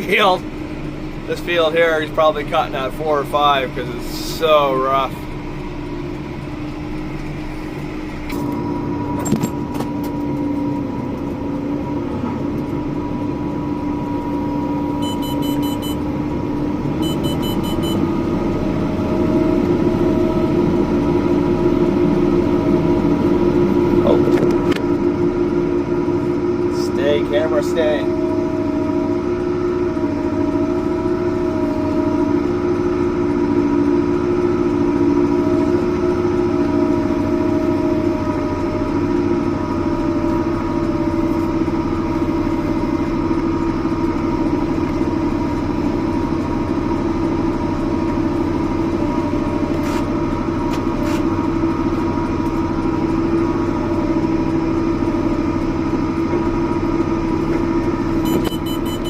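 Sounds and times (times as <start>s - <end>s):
diesel engine drone: 0.0s - 59.0s
machinery whine: 0.0s - 59.0s.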